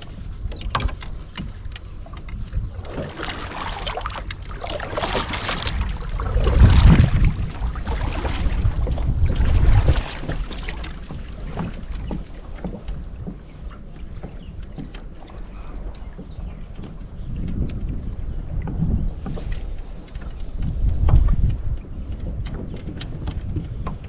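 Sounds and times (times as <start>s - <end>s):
water splashing and sloshing: 0.0s - 24.0s
wind buffeting microphone: 0.0s - 24.0s.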